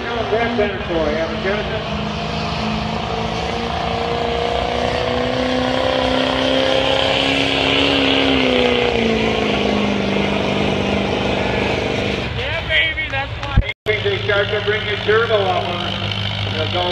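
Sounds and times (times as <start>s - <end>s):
diesel engine at full throttle: 0.0s - 16.9s.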